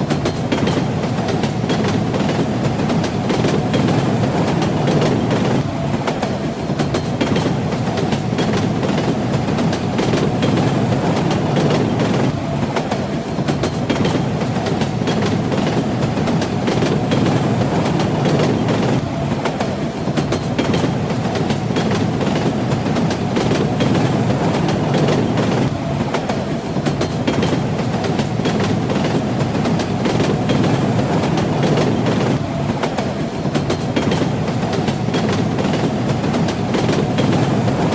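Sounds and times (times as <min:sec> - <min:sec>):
train rumbling on rails: 0:00.0 - 0:37.9.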